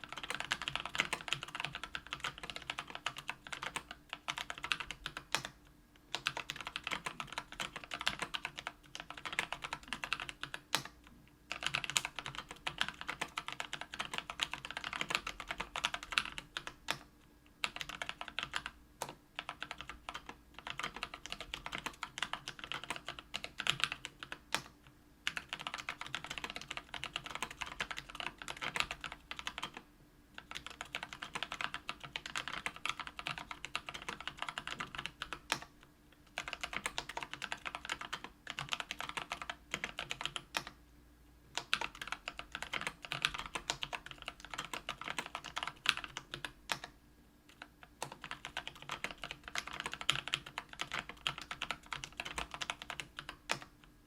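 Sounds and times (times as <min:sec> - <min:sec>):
keyboard typing: 0:00.0 - 0:29.8, 0:30.4 - 0:40.8, 0:41.5 - 0:53.9.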